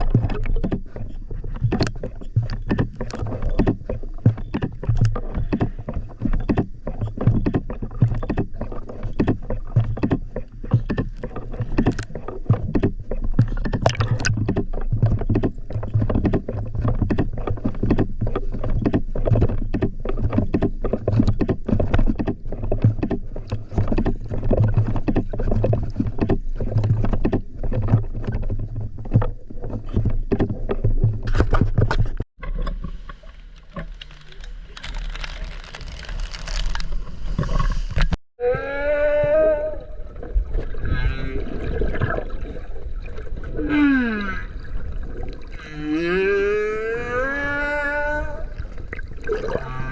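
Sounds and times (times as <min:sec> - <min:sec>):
water splashing against a boat: 0:00.0 - 0:49.9.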